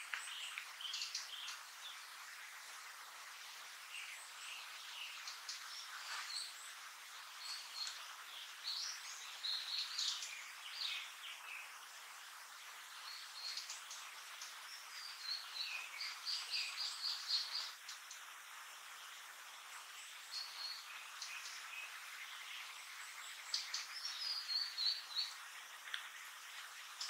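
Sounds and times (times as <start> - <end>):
bird chirping: 0.0 - 18.3, 18.9 - 27.0.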